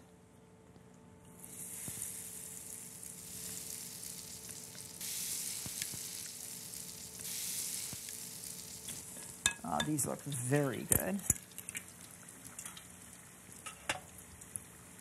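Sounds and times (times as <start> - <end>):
batter sizzling in hot oil: 1.3 - 15.0.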